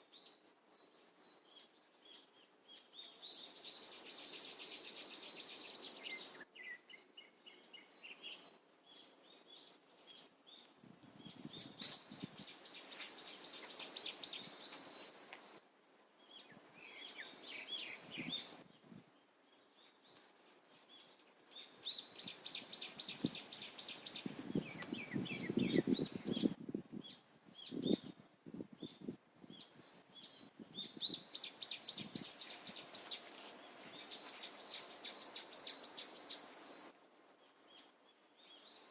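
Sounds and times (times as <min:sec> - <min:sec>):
birds chirping: 0:00.9 - 0:38.9.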